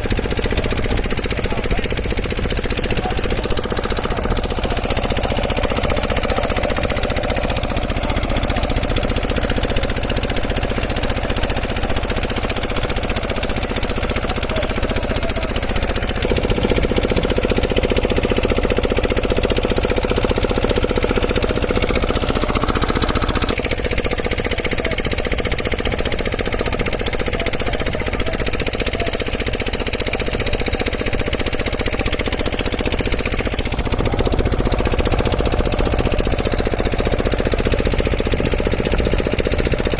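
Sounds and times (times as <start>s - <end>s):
engine clattering: 0.0s - 39.9s.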